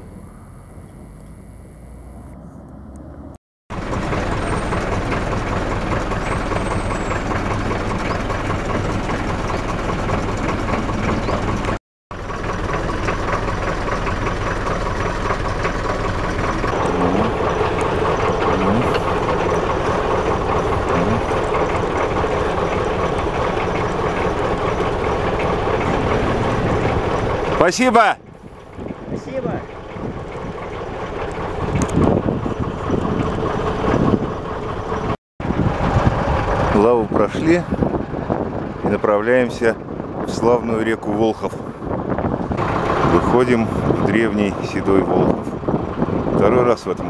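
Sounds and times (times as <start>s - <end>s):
motorboat engine running: 3.7s - 47.0s.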